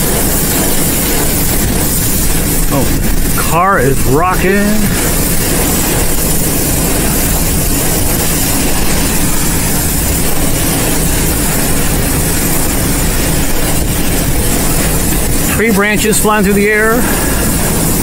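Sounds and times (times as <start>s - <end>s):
heavy rain beating on a car: 0.0s - 18.0s
storm wind on a car: 0.0s - 18.0s.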